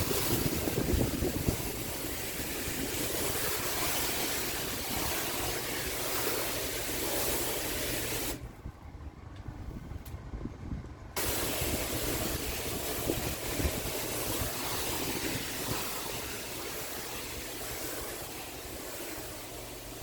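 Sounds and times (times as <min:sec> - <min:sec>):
high-pressure water spray hiss: 0:00.0 - 0:08.5, 0:11.2 - 0:20.0
pressure washer engine hum: 0:00.0 - 0:10.1, 0:11.1 - 0:20.0.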